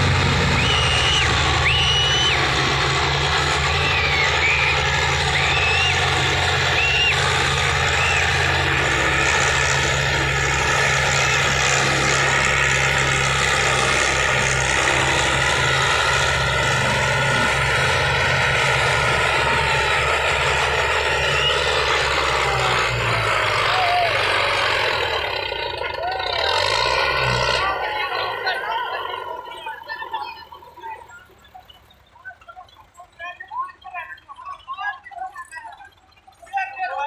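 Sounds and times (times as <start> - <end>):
people talking: 0.0 - 15.6, 18.3 - 37.0
tractor engines droning: 0.0 - 37.0.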